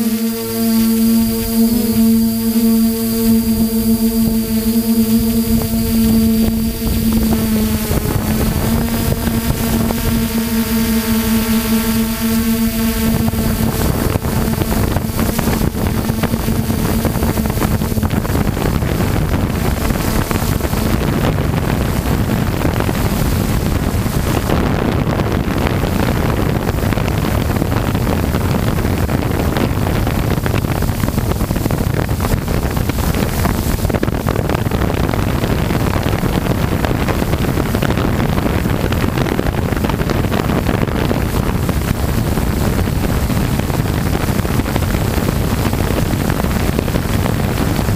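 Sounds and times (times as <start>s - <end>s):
helicopter rotor noise: 0.0s - 47.9s
hum: 0.0s - 47.9s
wind buffeting microphone: 0.0s - 47.9s.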